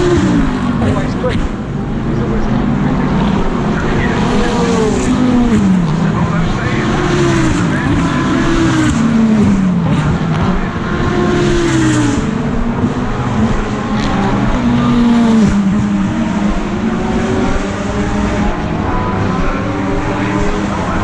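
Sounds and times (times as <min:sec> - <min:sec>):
race cars passing at speed: 0:00.0 - 0:21.0.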